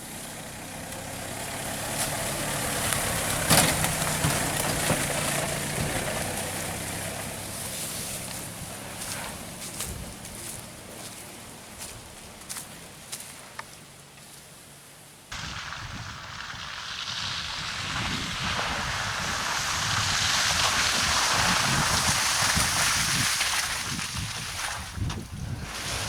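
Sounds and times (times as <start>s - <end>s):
vehicle splashing through muddy water: 0.0s - 26.0s.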